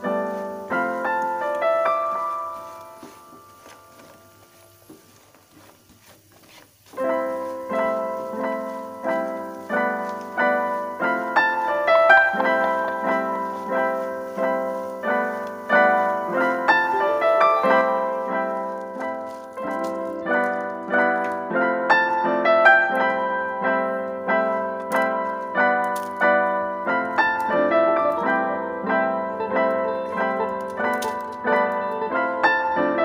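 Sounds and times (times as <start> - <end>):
piano music: 0.0 - 5.4, 6.9 - 33.0.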